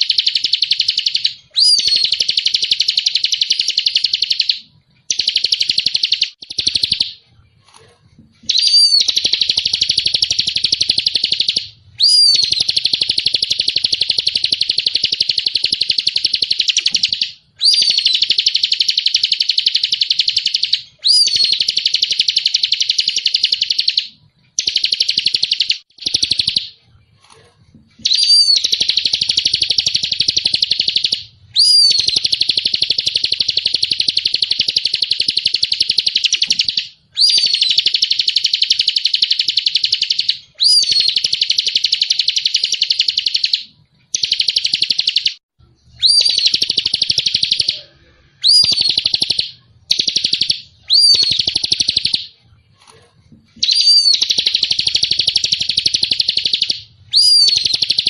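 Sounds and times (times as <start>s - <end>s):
small songbird twittering: 0.0s - 7.1s, 8.5s - 24.0s, 28.0s - 43.5s, 46.0s - 47.8s, 48.4s - 52.2s, 53.6s - 58.0s.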